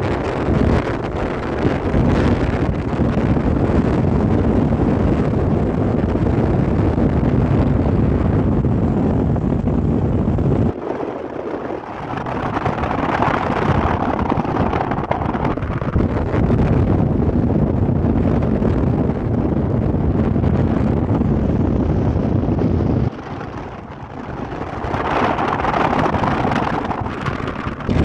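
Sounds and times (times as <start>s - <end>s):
road noise: 0.0s - 28.0s
wind buffeting microphone: 0.0s - 28.0s.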